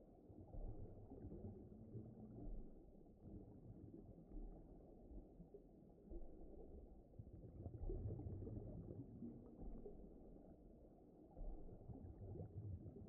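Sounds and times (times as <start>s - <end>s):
low rumbling underwater ambience: 0.0s - 13.0s.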